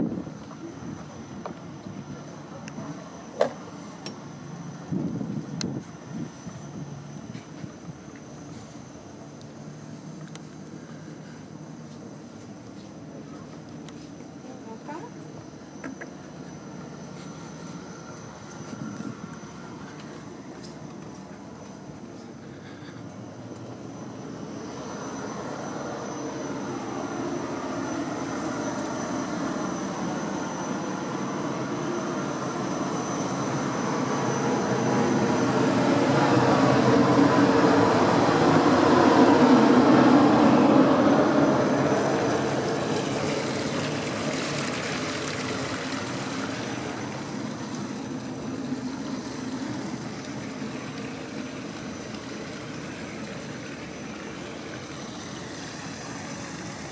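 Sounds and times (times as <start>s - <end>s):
faint steady hum: 0.0s - 56.9s
passing craft engine: 0.0s - 56.9s.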